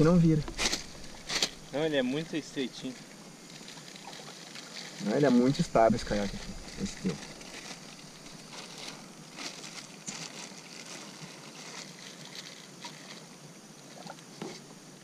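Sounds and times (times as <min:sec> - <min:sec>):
river ambience: 0:00.0 - 0:15.0
fishing gear rustling and clicking: 0:00.4 - 0:13.4.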